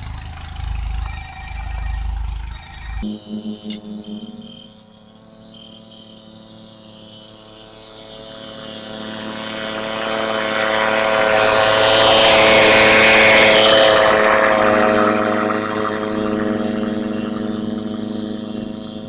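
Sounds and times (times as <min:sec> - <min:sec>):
snowblower engine running: 0:00.0 - 0:04.8, 0:06.6 - 0:19.0.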